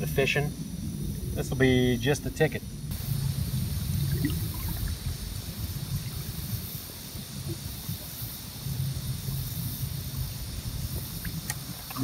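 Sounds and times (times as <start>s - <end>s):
high-pitched hiss: 0.0s - 12.0s
low rumble: 0.0s - 12.0s.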